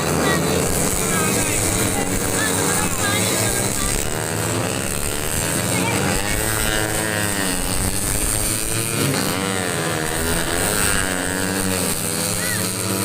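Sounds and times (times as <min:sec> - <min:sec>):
racing motorcycles at high revs: 0:00.0 - 0:13.0.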